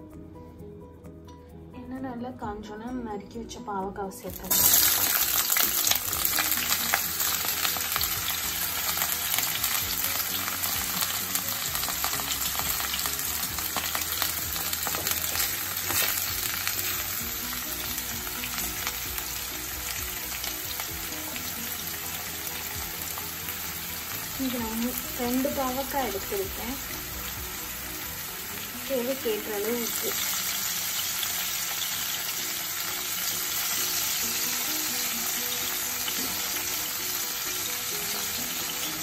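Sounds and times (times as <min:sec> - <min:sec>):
vegetable slices sizzling in oil: 0:04.3 - 0:39.0.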